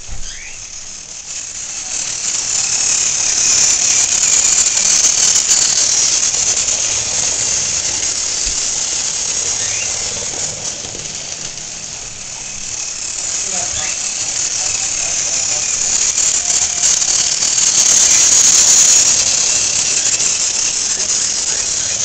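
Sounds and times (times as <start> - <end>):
toy train motor whirring: 0.0 - 22.0.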